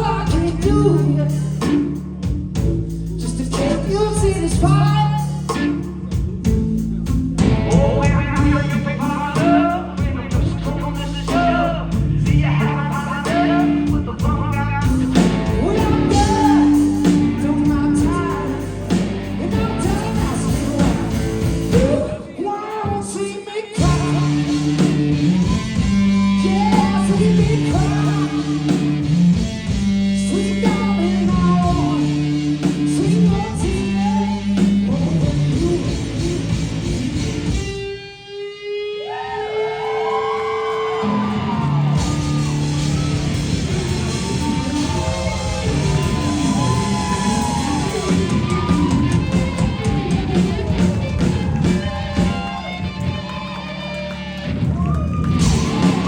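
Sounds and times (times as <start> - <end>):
person singing: 0.0 - 2.0, 2.6 - 29.4, 30.2 - 37.2, 39.0 - 53.8
electric guitar: 0.0 - 56.0
live rock band playing: 0.0 - 56.0.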